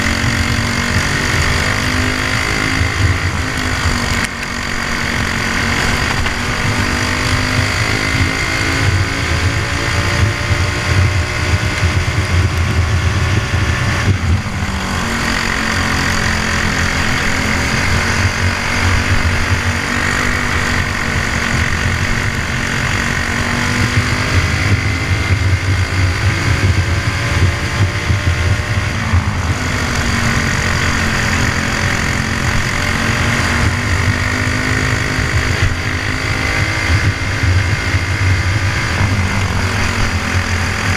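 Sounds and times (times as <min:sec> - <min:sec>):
kart engine at racing speed: 0:00.0 - 0:40.9.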